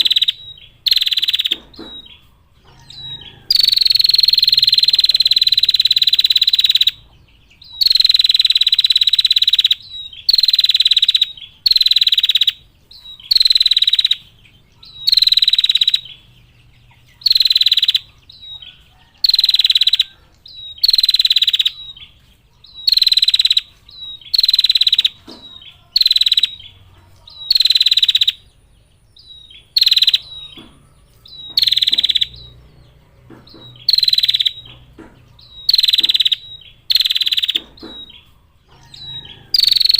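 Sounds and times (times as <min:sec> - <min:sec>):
bird rattling trill calls: 0:00.0 - 0:39.9.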